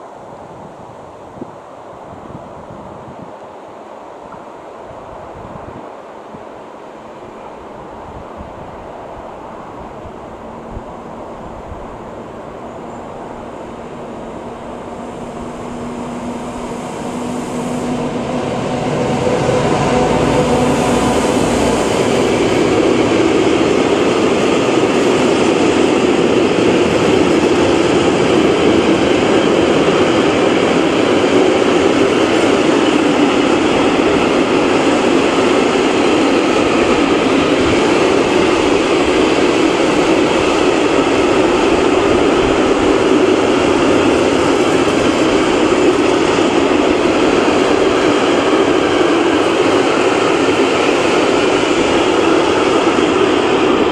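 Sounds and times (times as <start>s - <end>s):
electric locomotives humming: 7.0s - 53.9s
train wheels rumbling on rails: 7.4s - 53.9s.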